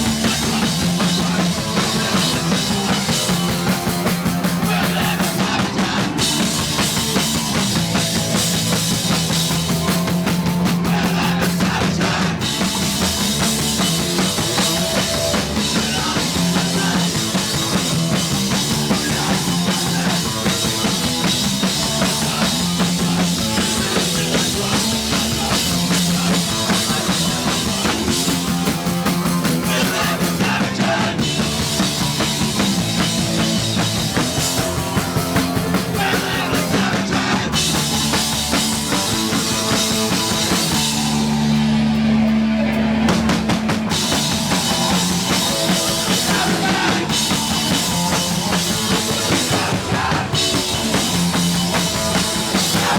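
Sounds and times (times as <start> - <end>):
distorted guitar: 0.0 - 52.9
pounding drum kit: 0.0 - 52.9
punk band playing live: 0.0 - 52.9.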